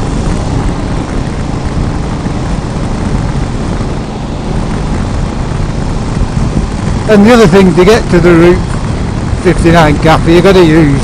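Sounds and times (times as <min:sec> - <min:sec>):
motorcycle engine drone: 0:00.0 - 0:11.0
wind rushing: 0:00.0 - 0:11.0.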